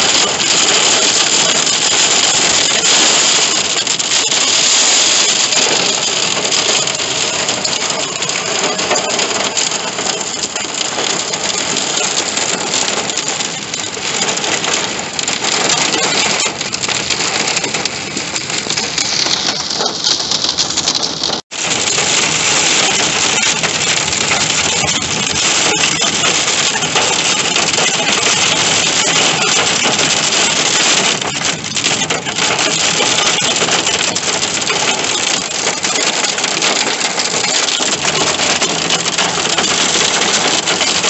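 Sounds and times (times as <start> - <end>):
heavy rain on car roof: 0.0 - 41.0.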